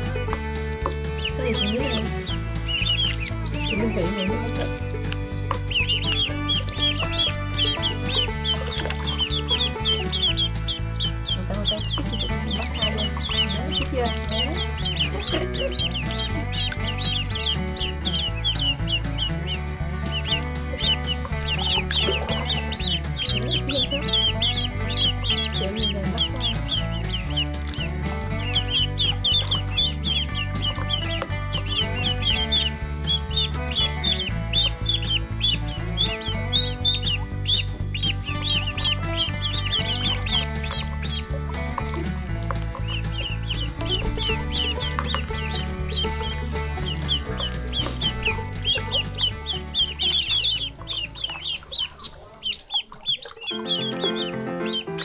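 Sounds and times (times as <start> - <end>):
background music with bass: 0.0 - 52.0, 53.4 - 55.0
ducklings peeping: 0.0 - 55.0.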